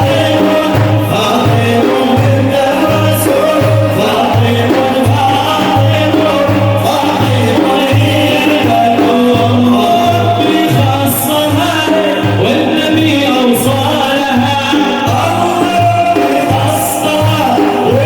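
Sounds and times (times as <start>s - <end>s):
frame drums beating: 0.0s - 18.0s.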